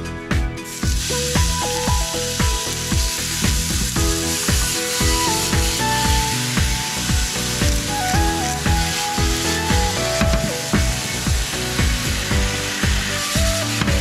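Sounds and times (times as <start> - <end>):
background music with beat: 0.0 - 14.0
meat sizzling in frying pan: 0.6 - 14.0.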